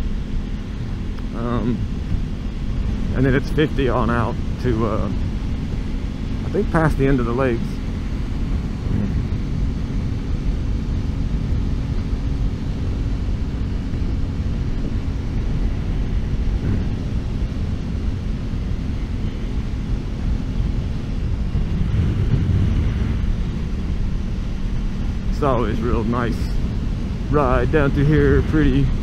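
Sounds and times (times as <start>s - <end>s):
motorcycle engine cruising: 0.0s - 29.0s
wind rushing over microphone: 0.0s - 29.0s.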